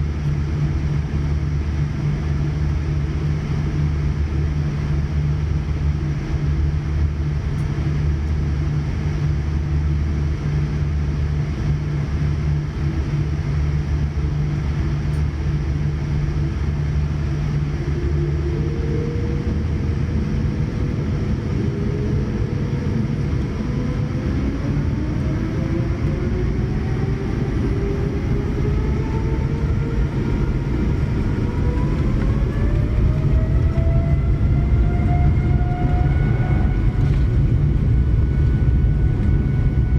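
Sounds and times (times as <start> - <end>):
cabin low rumble and hum: 0.0 - 39.9
jet engines whining spooling up: 0.1 - 39.9.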